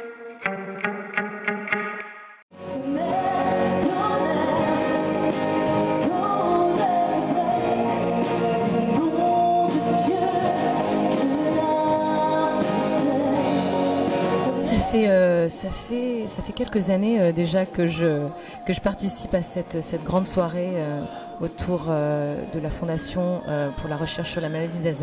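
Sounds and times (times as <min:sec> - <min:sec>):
woman singing into microphone: 0:02.6 - 0:25.0.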